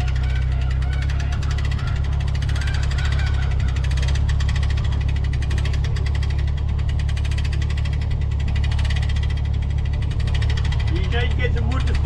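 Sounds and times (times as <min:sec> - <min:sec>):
engine humming with fast pulsing: 0:00.0 - 0:12.0.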